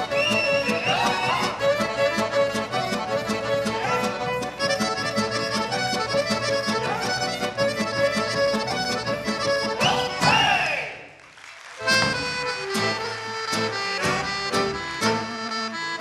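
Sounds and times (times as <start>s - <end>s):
accordion-led folk dance music: 0.0s - 10.9s, 11.8s - 16.0s.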